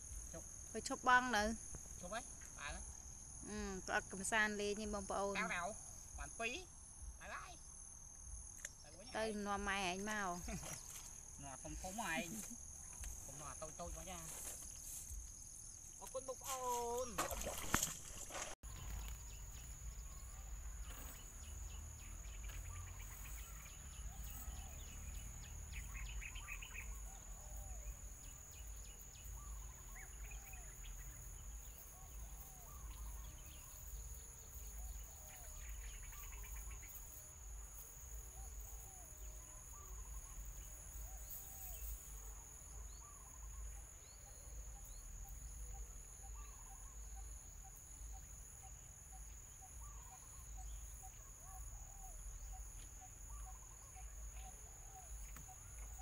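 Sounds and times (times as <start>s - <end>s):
crickets droning: 0.0s - 56.0s
rising and falling insect call: 0.0s - 56.0s.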